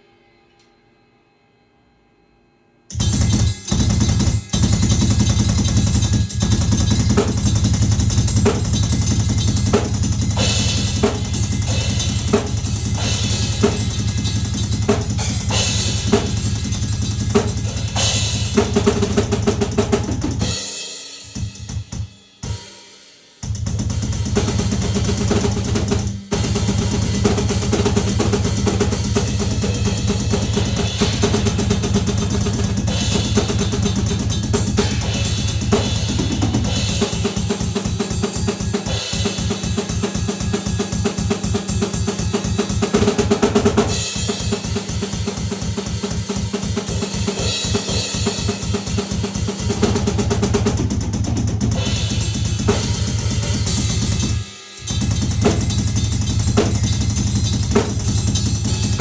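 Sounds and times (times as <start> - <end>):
fast loud drum kit: 2.9 - 59.0.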